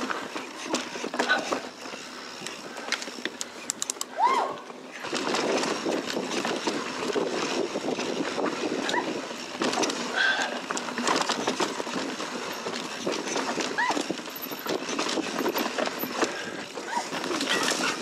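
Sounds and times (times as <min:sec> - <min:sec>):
bike rattling and clicking: 0:00.0 - 0:18.0.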